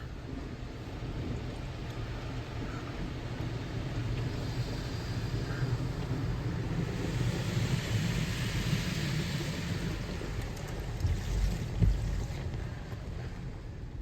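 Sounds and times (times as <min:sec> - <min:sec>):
car wash rumble and hiss: 0:00.0 - 0:14.0.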